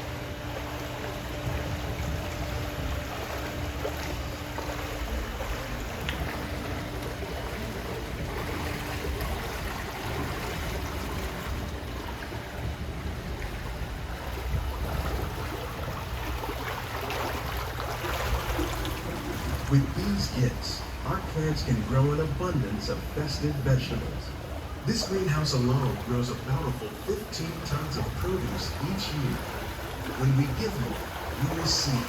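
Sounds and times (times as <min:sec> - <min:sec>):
faint steady hum: 0:00.0 - 0:32.0
low rumble of ride boat: 0:00.0 - 0:32.0
water washing: 0:00.0 - 0:32.0.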